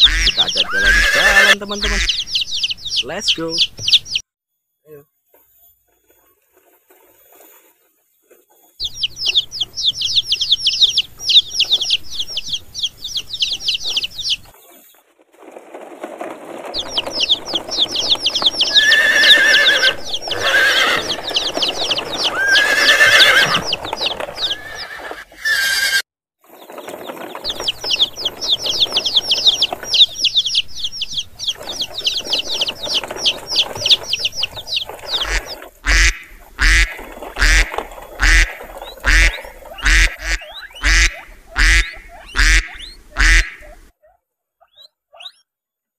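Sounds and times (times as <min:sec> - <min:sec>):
chickens clucking and crying: 0:00.0 - 0:04.2, 0:08.5 - 0:14.8, 0:16.1 - 0:43.9
chicks peeping: 0:00.0 - 0:04.2, 0:08.5 - 0:15.0, 0:16.2 - 0:25.2, 0:26.5 - 0:43.9.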